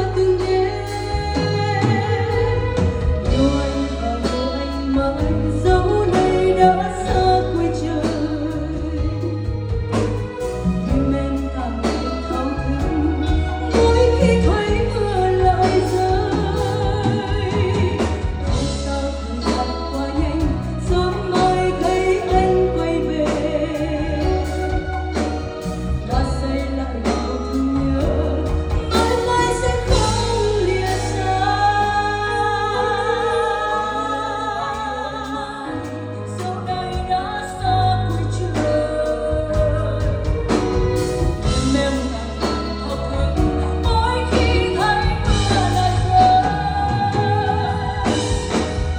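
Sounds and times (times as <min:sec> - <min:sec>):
pop song with singing: 0:00.0 - 0:48.9.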